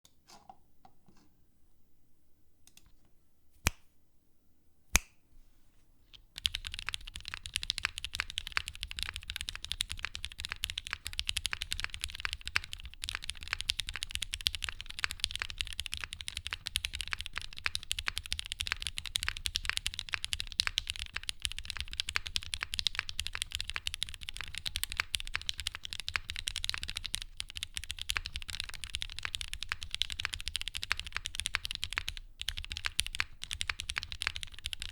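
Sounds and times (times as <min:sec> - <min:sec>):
typing on mechanical keyboard: 0:06.4 - 0:34.9.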